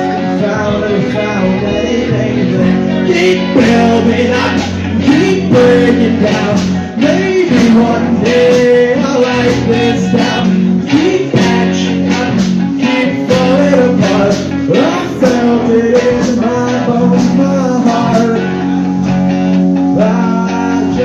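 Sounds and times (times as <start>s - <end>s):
steady drum beat: 0.0s - 19.5s
guitar: 0.0s - 21.0s.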